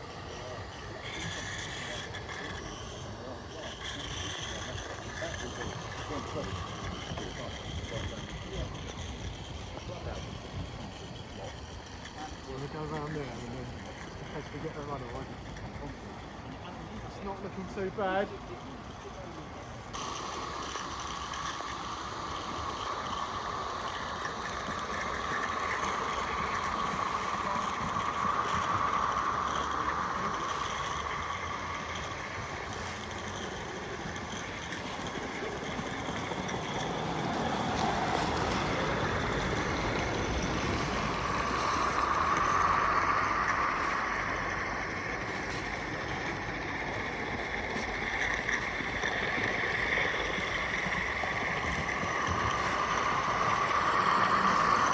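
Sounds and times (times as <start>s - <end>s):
steam locomotive hiss and exhaust: 0.0s - 54.9s.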